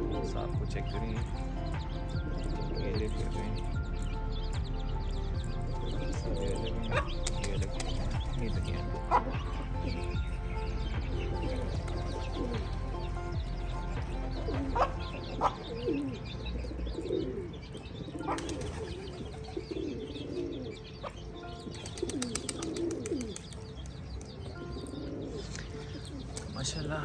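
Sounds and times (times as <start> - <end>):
chicks chirping: 0.0 - 27.0
pigeons cooing: 0.0 - 27.0.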